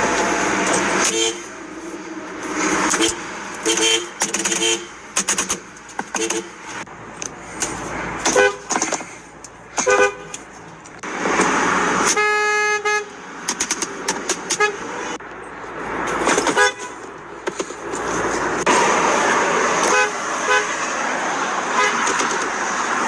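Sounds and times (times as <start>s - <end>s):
car horns honking: 0.0s - 23.0s.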